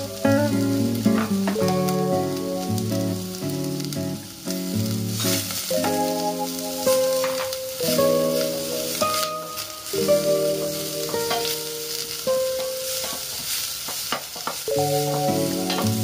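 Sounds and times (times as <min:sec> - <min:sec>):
background music melody: 0:00.0 - 0:13.4, 0:14.6 - 0:16.0
shrimp sizzling in hot oil: 0:00.0 - 0:16.0.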